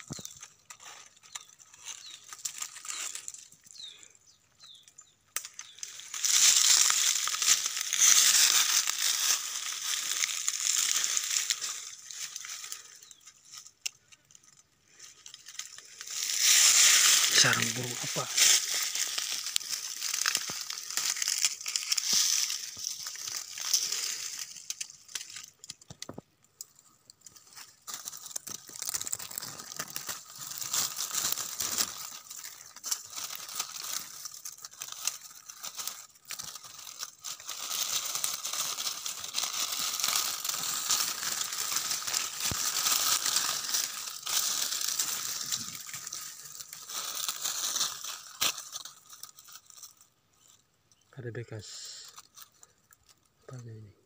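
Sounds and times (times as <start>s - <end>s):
dry leaves crackling and rustling: 0.0s - 53.9s.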